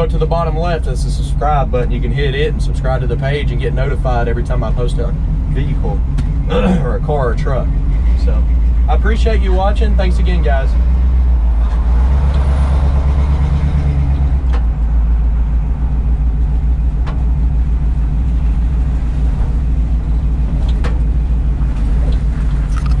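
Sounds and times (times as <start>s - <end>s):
deep exhaust rumble: 0.0s - 23.0s.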